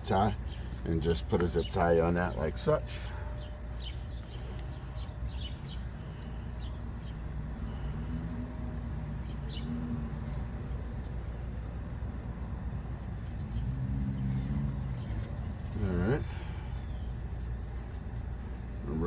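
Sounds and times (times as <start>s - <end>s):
birds chirping: 0.0s - 19.0s
motor vehicle rumbling: 0.0s - 19.0s.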